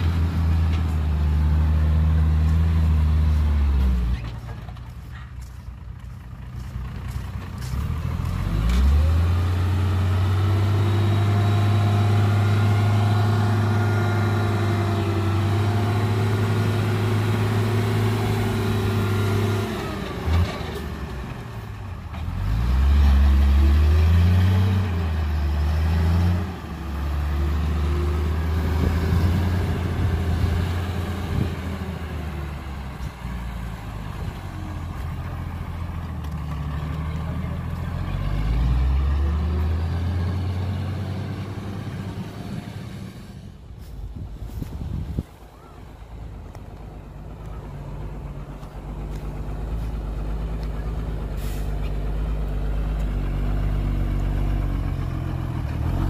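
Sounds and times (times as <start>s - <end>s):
heavy diesel engine revving: 0.0s - 4.4s, 6.6s - 44.6s, 45.8s - 56.0s.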